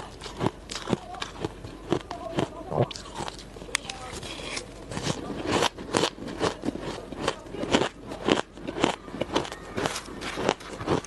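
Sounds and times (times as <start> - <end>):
ice being chewed: 0.0 - 11.0.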